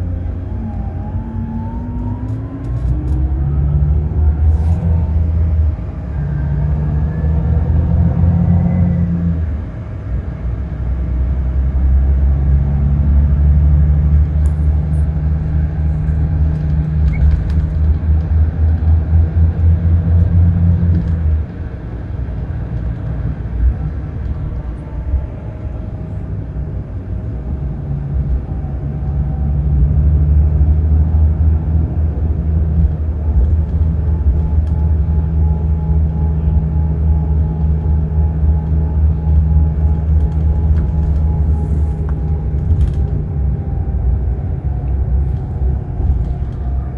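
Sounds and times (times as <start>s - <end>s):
bus diesel engine drone: 0.0s - 46.9s.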